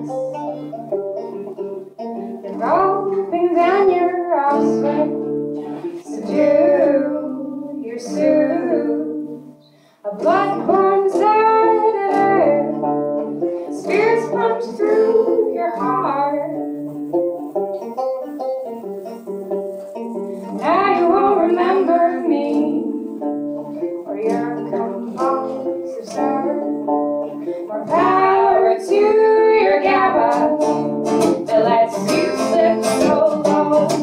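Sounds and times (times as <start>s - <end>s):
acoustic guitar: 0.0s - 34.0s
banjo: 0.0s - 34.0s
person singing: 2.2s - 17.1s, 20.1s - 34.0s.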